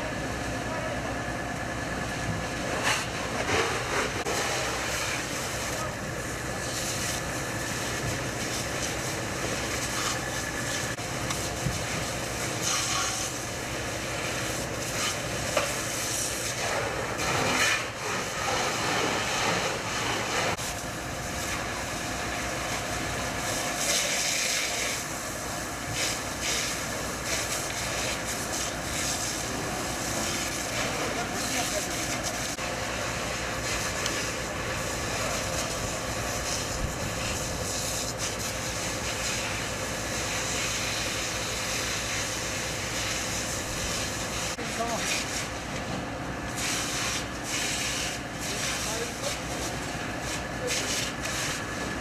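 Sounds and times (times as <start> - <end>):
fire hissing: 0.2 - 52.0
fire crackling and knocking: 2.1 - 52.0.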